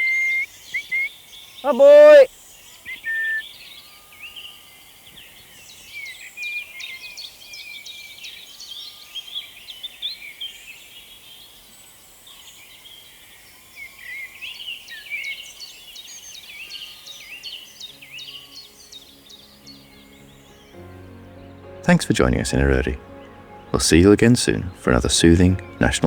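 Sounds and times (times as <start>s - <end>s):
faint steady outdoor hiss: 0.0s - 26.0s
songbird singing: 0.0s - 26.0s.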